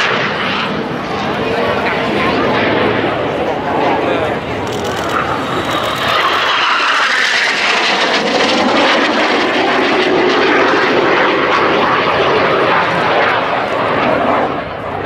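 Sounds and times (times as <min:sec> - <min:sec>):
low-passing jet roar: 0:00.0 - 0:15.0.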